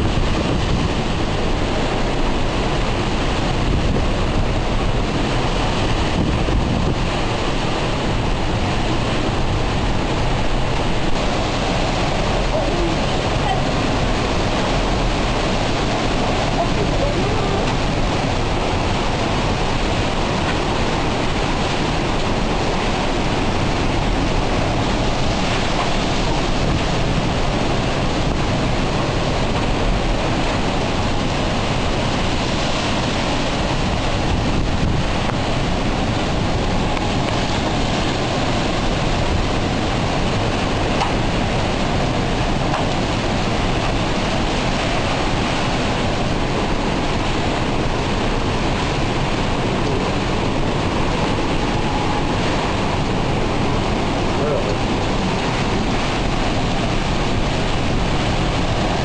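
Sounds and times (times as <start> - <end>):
strong wind and driving rain: 0.0 - 59.0
wind buffeting microphone: 0.0 - 59.0.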